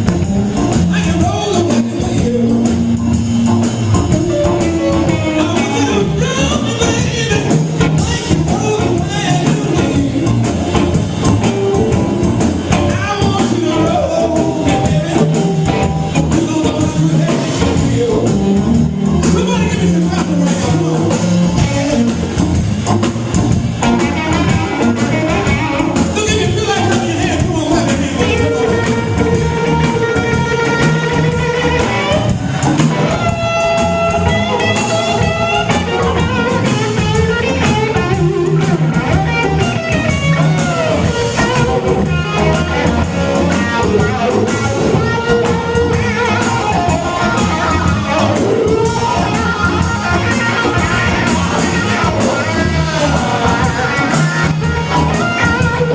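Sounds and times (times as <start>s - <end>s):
live blues band playing: 0.0s - 55.9s
person singing: 0.6s - 3.2s, 4.2s - 10.9s, 12.7s - 22.4s, 24.0s - 55.9s.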